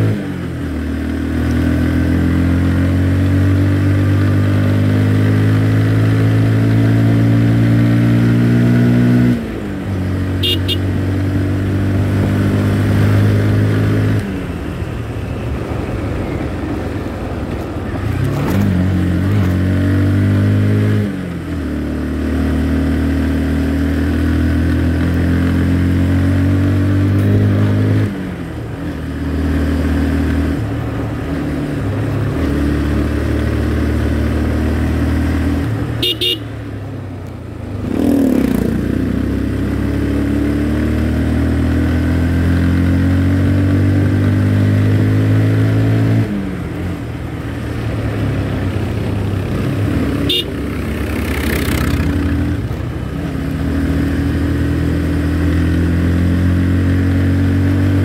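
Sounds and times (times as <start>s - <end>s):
motorcycle engine revving: 0.0s - 15.1s, 17.8s - 58.0s.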